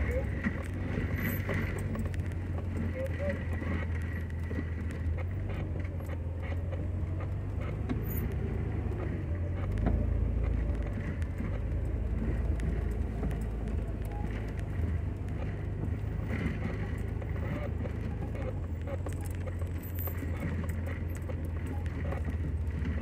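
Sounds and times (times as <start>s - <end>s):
knocks and rattles over bumps: 0.0s - 23.0s
tire and road noise: 0.0s - 23.0s
vehicle engine rumble: 0.0s - 23.0s.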